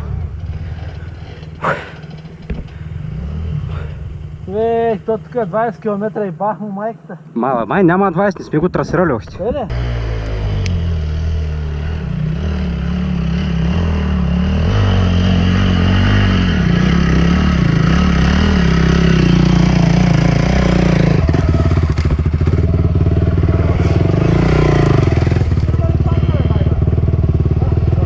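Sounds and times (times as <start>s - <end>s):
dirt bike engine revving: 0.0s - 6.1s, 9.7s - 28.0s.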